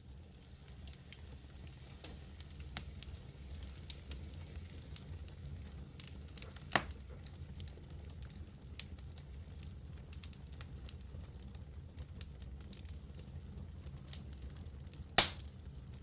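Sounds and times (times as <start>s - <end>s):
fire crackling and popping: 0.0s - 16.0s
wood fire roaring: 0.0s - 16.0s.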